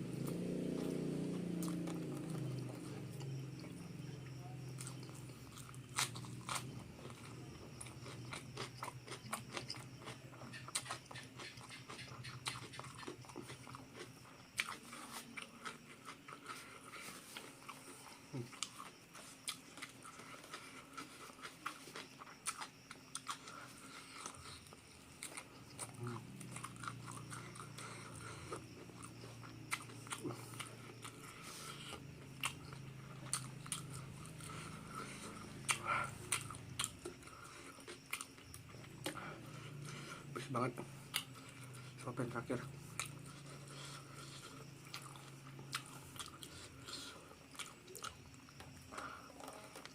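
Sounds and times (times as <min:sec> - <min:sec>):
person chewing crispy food: 0:00.2 - 0:49.9.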